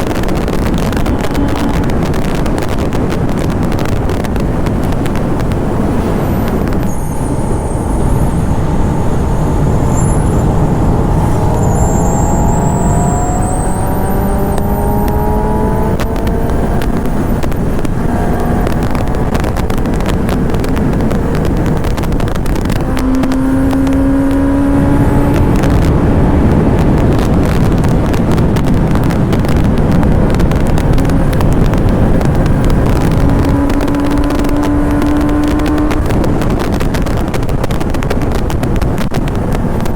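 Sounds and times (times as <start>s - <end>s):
motorcycle engine pulling hard: 0.0s - 39.9s
wind rush: 0.0s - 39.9s.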